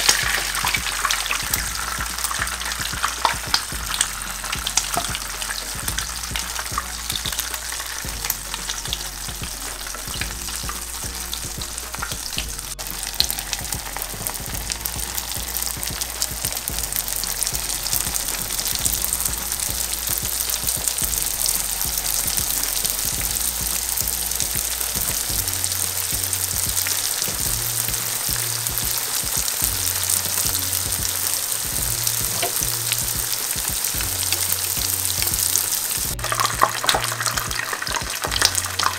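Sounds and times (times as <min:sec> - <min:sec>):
dough sizzling in hot oil: 0:00.0 - 0:38.9.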